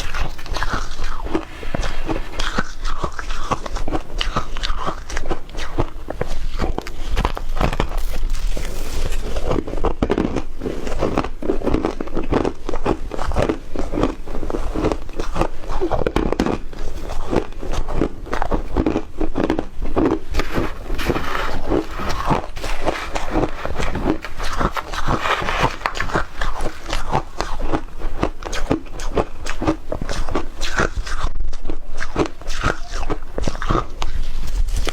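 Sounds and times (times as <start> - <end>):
crunching and chewing ice: 0.0 - 34.9.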